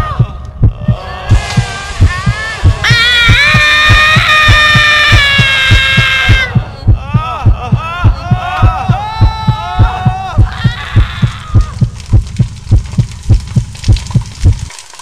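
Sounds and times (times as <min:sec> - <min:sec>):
fast low thumping beat: 0:00.0 - 0:14.6.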